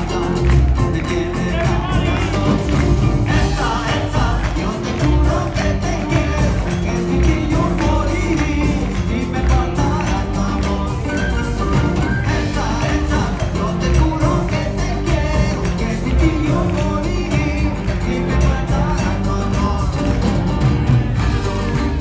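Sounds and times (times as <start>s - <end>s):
hand percussion: 0.0s - 22.0s
person singing: 0.0s - 22.0s
steady bass line: 0.0s - 22.0s.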